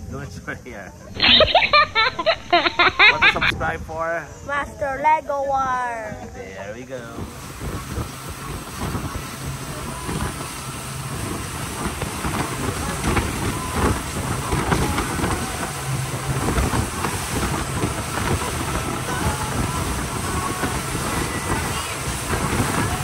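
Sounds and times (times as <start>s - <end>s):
speedboat engine drone: 0.0s - 5.0s, 5.9s - 23.0s
water rushing along hull: 1.1s - 23.0s.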